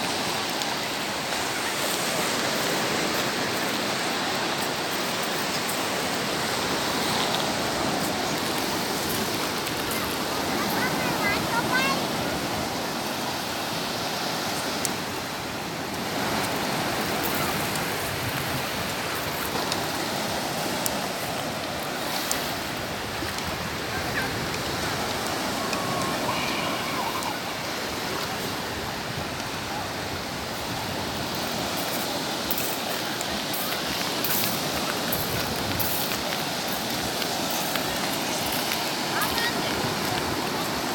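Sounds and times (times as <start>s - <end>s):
sea surf washing onto shore: 0.0s - 40.9s.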